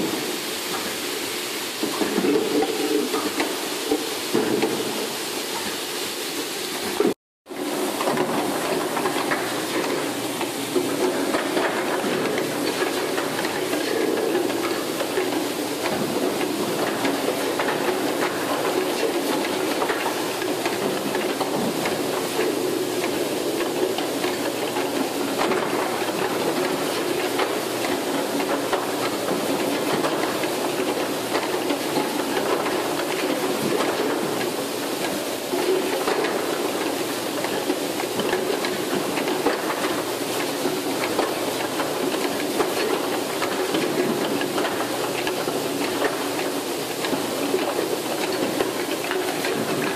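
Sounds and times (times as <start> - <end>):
machine hiss and hum: 0.0 - 49.9.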